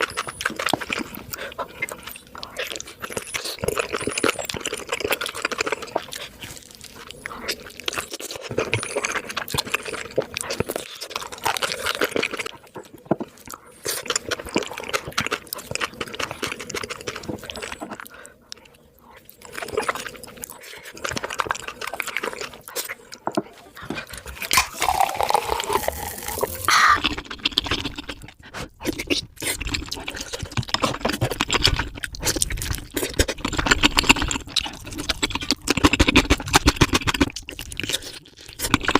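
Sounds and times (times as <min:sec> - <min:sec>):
crunching fried chicken: 0:00.0 - 0:38.9
wet chewing and smacking: 0:00.0 - 0:38.9.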